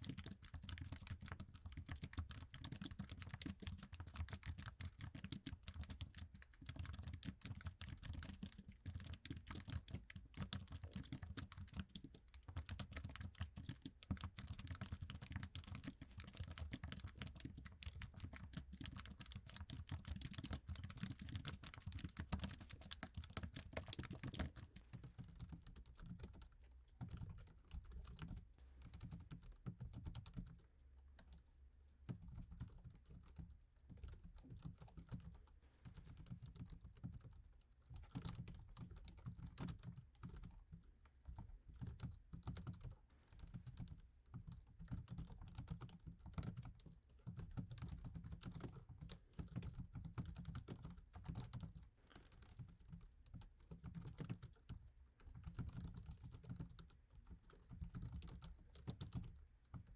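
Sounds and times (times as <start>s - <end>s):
keyboard typing: 0.0s - 26.4s, 27.0s - 30.6s, 32.1s - 37.4s, 38.0s - 40.5s, 41.8s - 59.9s.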